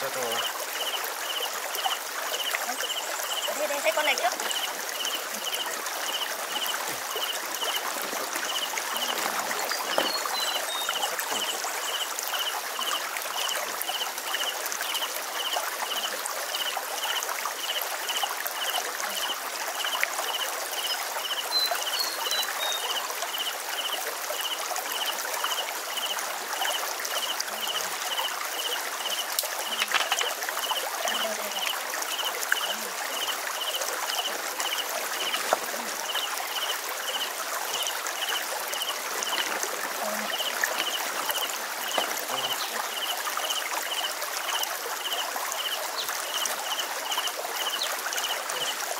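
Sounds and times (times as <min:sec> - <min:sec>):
stream trickling over rocks: 0:00.0 - 0:48.9.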